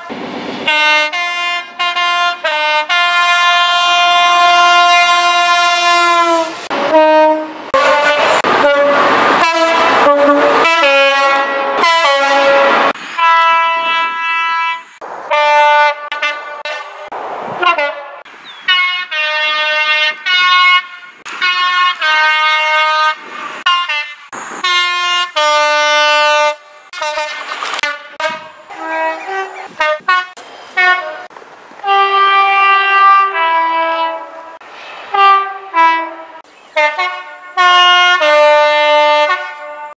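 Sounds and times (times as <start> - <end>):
locomotive air horns two-tone blasts: 0.0 - 39.9.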